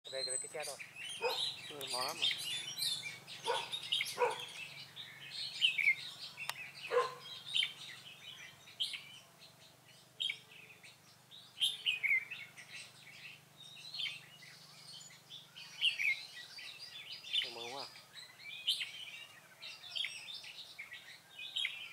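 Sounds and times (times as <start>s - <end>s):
birds singing and chirping: 0.0s - 21.9s.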